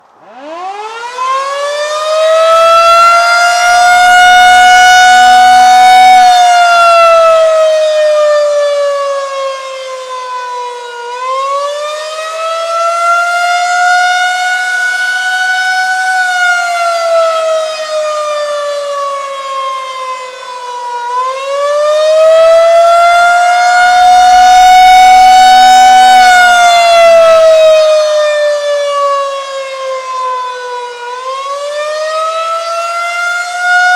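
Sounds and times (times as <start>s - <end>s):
warning siren rising and falling: 0.0s - 33.9s.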